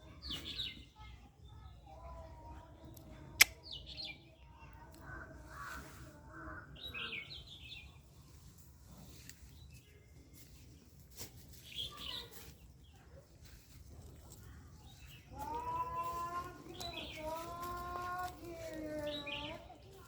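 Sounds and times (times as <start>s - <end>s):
birds chirping: 0.0s - 11.0s, 11.6s - 20.0s.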